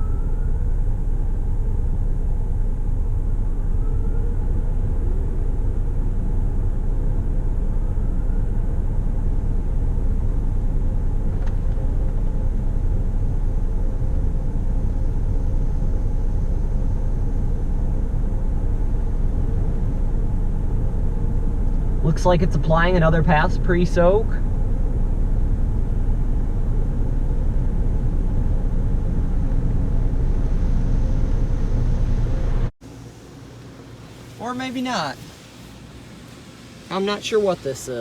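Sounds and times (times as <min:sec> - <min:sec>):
car wash gantry rumbling: 0:00.0 - 0:38.0
faint rising whines: 0:00.0 - 0:38.0.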